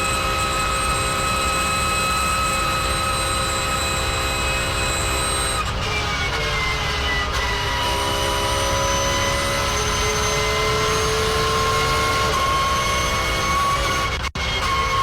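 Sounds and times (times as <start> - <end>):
race car engine: 0.0 - 15.0
race car gearbox whine: 0.0 - 15.0.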